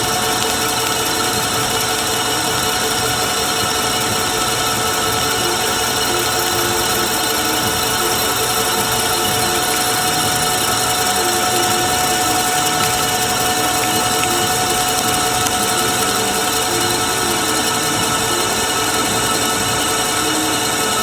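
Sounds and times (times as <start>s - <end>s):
machine tool droning: 0.0s - 21.0s.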